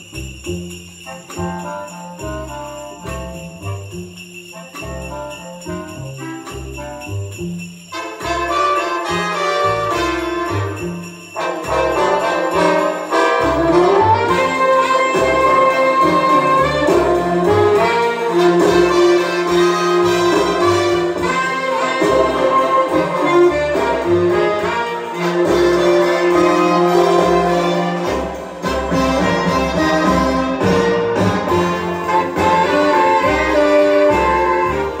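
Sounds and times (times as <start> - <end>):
orchestral music with brass and bells: 0.0 - 35.0.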